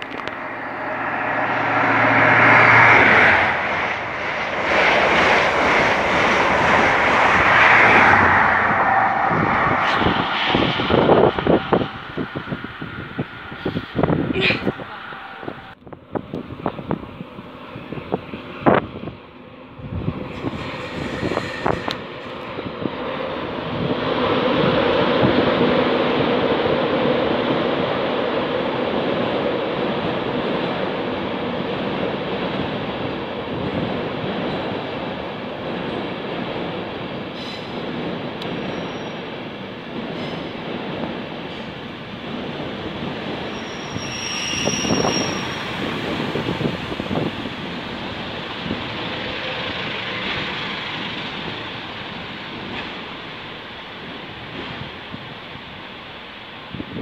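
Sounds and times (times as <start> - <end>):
diesel train passing at speed: 0.0 - 57.0.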